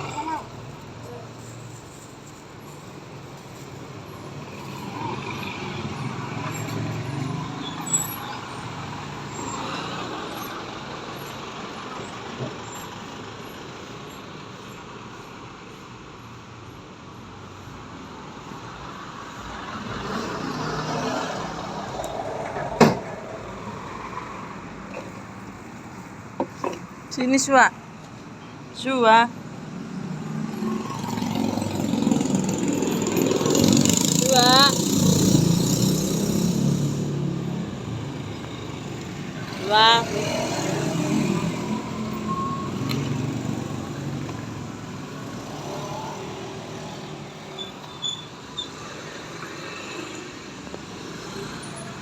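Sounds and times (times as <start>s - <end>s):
vehicles passing: 0.0s - 52.0s.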